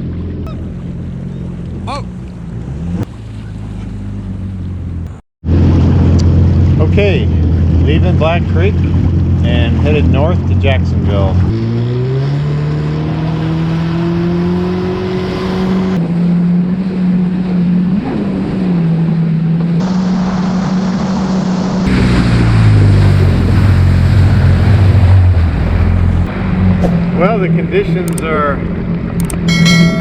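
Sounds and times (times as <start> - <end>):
jet ski engine running: 0.0 - 30.0
water and wind rushing: 0.0 - 30.0.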